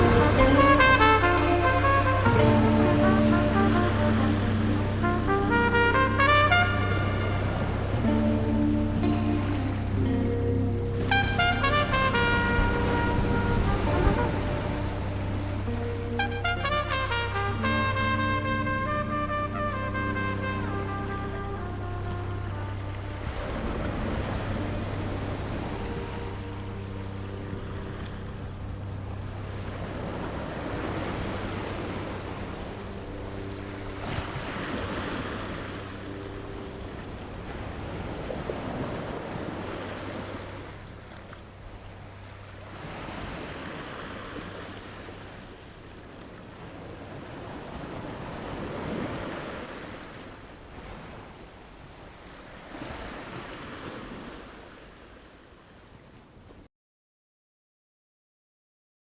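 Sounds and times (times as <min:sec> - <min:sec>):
ship engine droning low: 0:00.0 - 0:50.7
sea waves washing in: 0:00.0 - 0:56.6.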